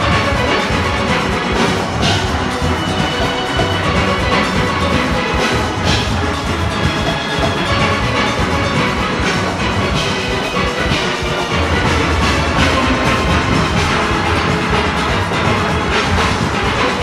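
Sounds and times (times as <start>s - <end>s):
drums and percussion: 0.0s - 17.0s
steelpans ringing: 0.0s - 17.0s.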